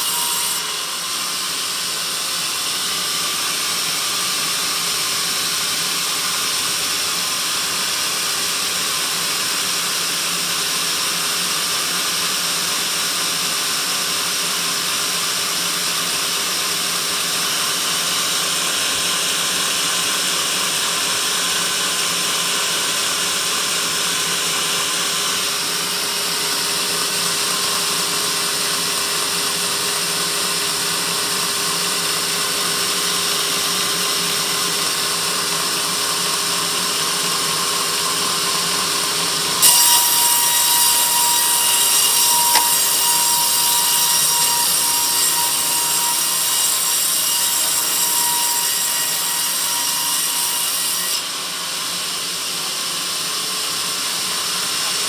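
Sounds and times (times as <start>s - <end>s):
band saw running: 0.0s - 55.0s.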